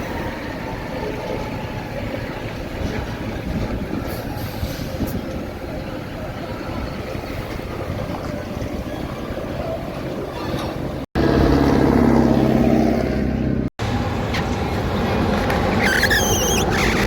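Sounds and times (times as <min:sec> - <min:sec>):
heavy truck engine droning: 0:00.0 - 0:17.0
road traffic passing: 0:00.0 - 0:17.0.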